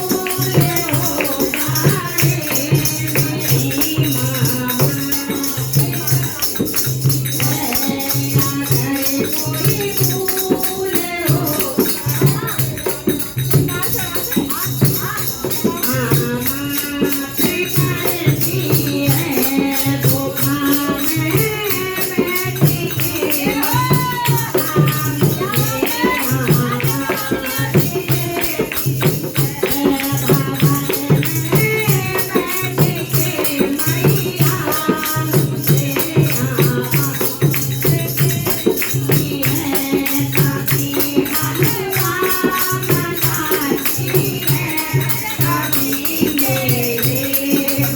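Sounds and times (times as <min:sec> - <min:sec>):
fast hand percussion: 0:00.0 - 0:47.9
person singing: 0:00.0 - 0:47.9.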